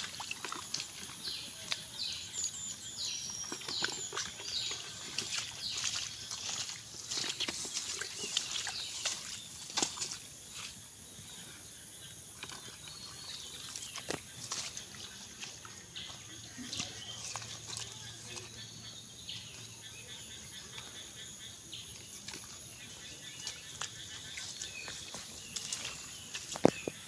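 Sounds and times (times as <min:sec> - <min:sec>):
feet moving through wet grass: 0:00.0 - 0:11.4, 0:12.4 - 0:20.8, 0:21.8 - 0:27.0
insects droning: 0:00.0 - 0:27.0.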